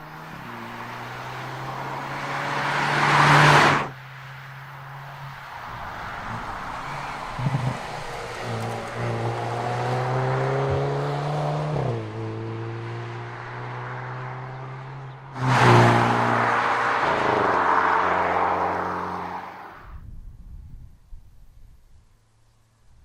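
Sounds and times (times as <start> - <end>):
car engine and exhaust under load: 0.0 - 23.0.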